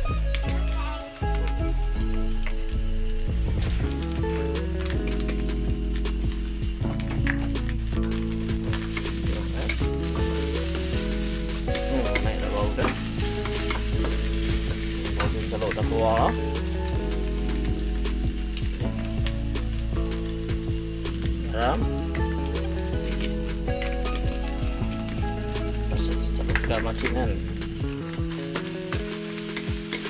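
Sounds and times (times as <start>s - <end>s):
steady low tones: 0.0s - 28.4s
food sizzling in hot oil: 0.0s - 30.0s.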